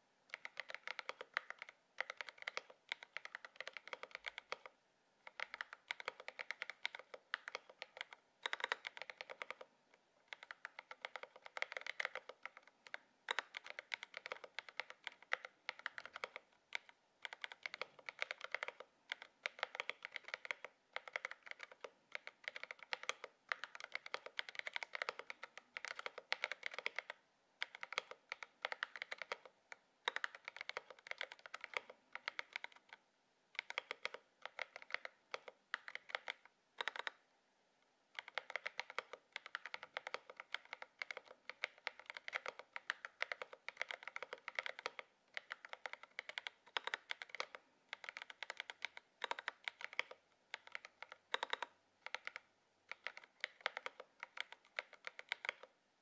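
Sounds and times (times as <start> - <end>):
mechanical keyboard typing: 0.3 - 9.7, 10.3 - 37.2, 38.1 - 55.8.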